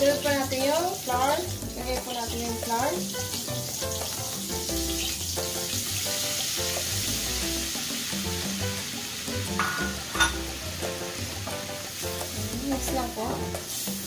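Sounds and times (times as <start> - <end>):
background music: 0.0 - 14.0
butter sizzling in a pan: 0.0 - 14.0.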